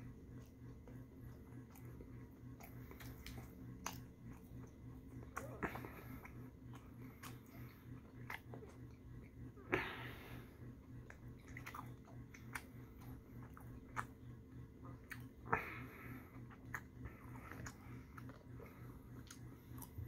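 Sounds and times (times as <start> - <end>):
chewing with wet smacks: 0.0 - 20.0
low steady hum: 0.0 - 20.0.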